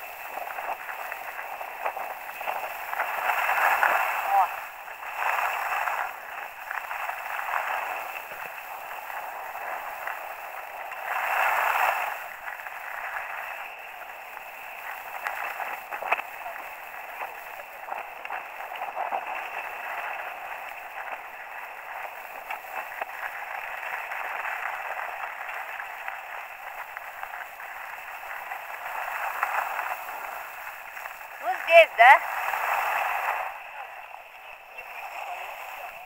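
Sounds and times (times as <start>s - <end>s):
skis sliding over snow: 0.0s - 36.0s
wind noise: 0.0s - 36.0s.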